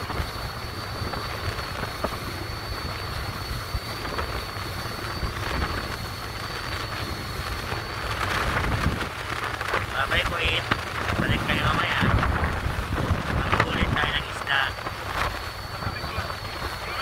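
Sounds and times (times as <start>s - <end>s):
thin steady high whine: 0.0s - 17.0s
water rushing along hull: 0.0s - 17.0s
wind buffeting microphone: 0.0s - 17.0s.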